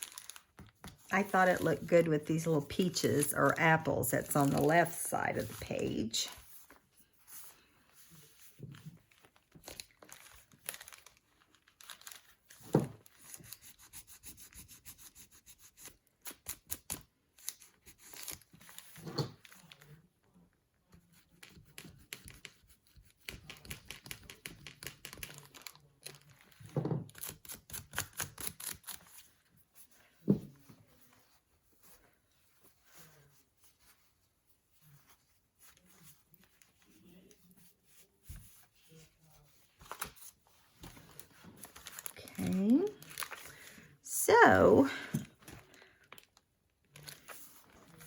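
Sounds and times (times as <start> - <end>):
paper rubbing and crinkling: 0.0 - 20.1, 20.9 - 43.7, 45.6 - 48.0.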